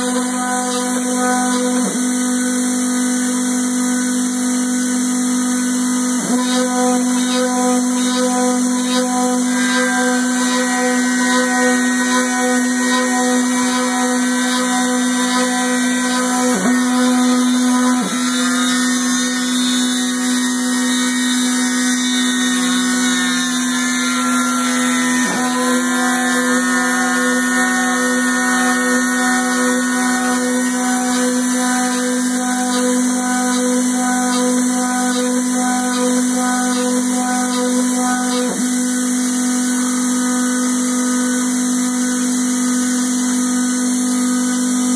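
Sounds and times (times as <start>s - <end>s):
milling machine motor whine: 0.0s - 44.9s.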